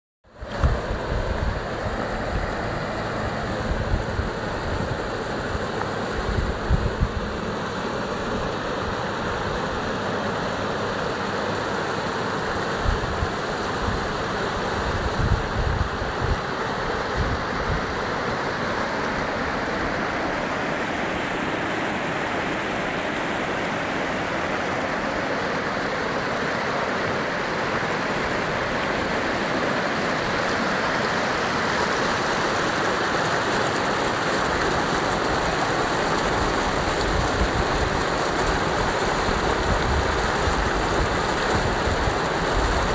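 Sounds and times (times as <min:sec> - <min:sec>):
floodwater roaring over rocks: 0:00.3 - 0:42.9.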